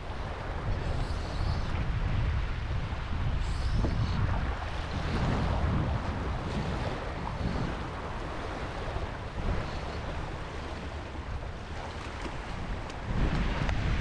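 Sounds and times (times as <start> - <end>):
small waves washing on sand: 0.0 - 14.0
wind buffeting microphone: 0.0 - 14.0.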